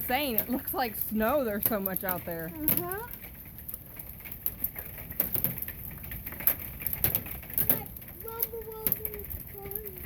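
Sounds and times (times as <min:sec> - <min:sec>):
hailstones pelting down: 0:00.0 - 0:10.0.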